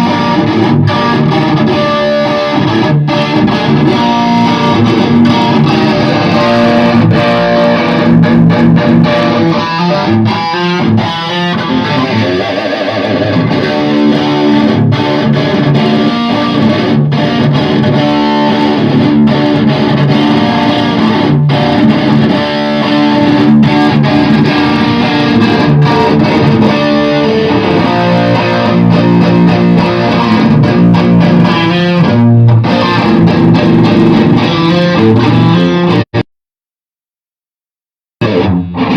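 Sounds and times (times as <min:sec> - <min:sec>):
electric guitar riffs and chords: 0:00.0 - 0:36.2, 0:38.2 - 0:38.9.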